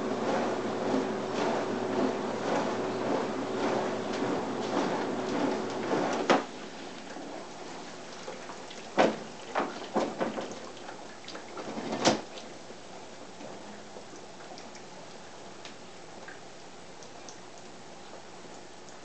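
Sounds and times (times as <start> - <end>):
dishwasher washing noise: 0.0 - 16.4.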